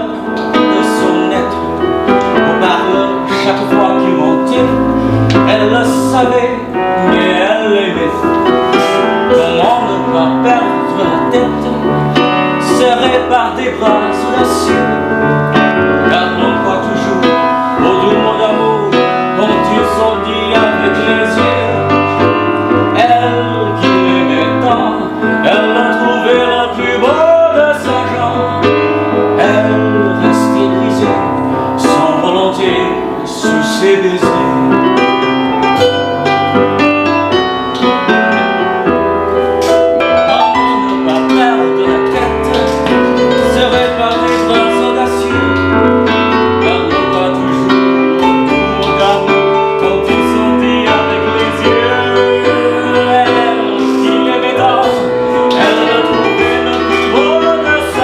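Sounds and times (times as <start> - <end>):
electric piano chords: 0.0 - 58.0.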